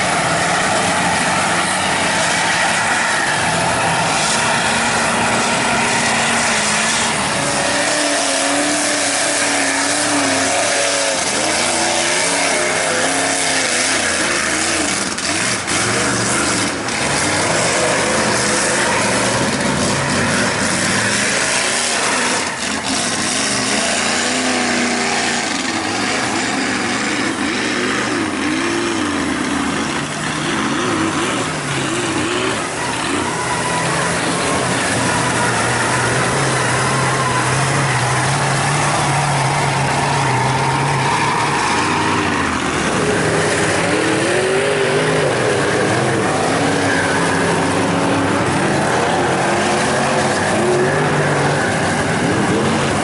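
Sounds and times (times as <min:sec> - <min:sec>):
steady rush of noise: 0:00.0 - 0:53.0
truck engine revving hard: 0:00.0 - 0:53.0.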